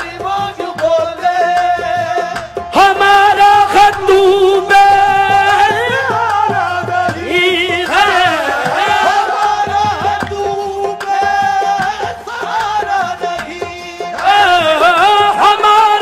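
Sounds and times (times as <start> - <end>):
hand drum: 0.0 - 16.0
harmonium: 0.0 - 16.0.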